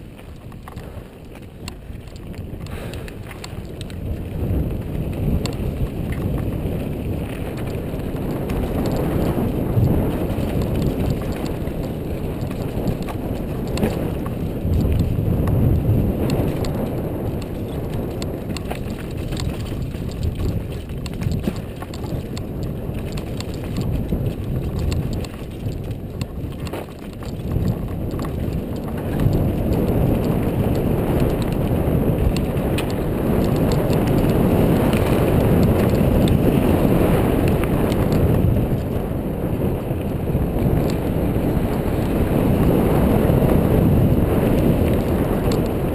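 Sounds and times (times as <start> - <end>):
bike rattling and clicking: 0.0 - 45.9
bike tyres on loose dirt: 0.0 - 45.9
wind rumbling on microphone: 0.0 - 45.9.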